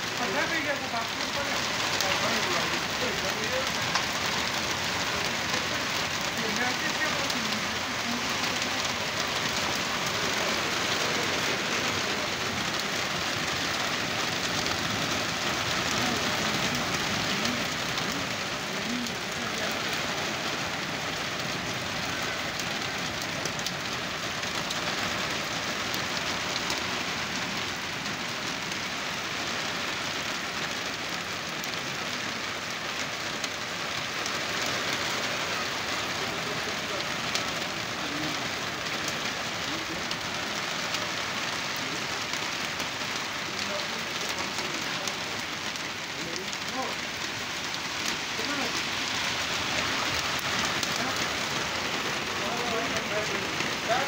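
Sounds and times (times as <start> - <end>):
heavy rain on road and cars: 0.0 - 54.0.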